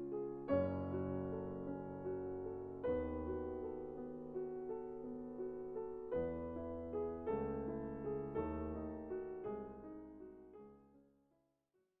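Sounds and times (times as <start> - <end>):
solo piano chords: 0.0 - 11.0.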